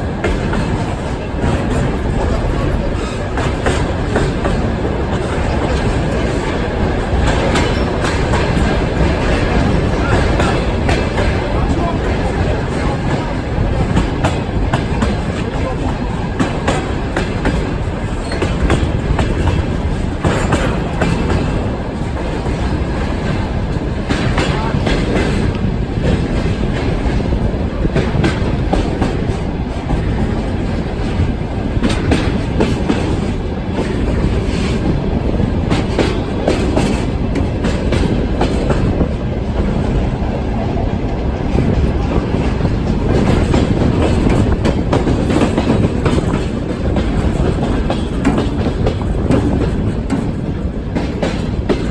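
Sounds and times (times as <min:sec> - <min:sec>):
freight train rumble: 0:00.0 - 0:51.9
wheels clattering over rails: 0:00.0 - 0:51.9.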